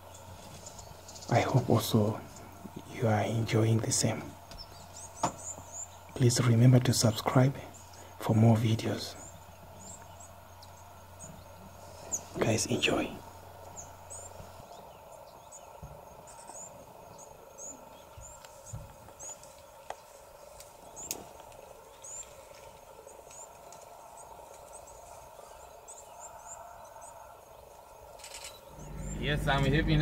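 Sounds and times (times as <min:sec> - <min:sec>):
small birds chirping: 0:00.0 - 0:30.0
steady hum: 0:00.0 - 0:30.0.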